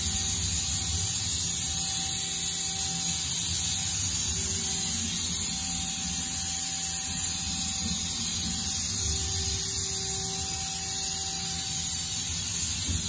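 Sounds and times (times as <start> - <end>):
faint high whine: 0.0 - 13.0
machine running with steady hiss: 0.0 - 13.0.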